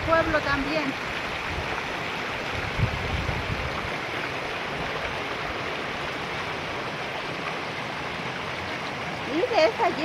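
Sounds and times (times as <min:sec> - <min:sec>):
river water flowing over rocks: 0:00.0 - 0:10.0.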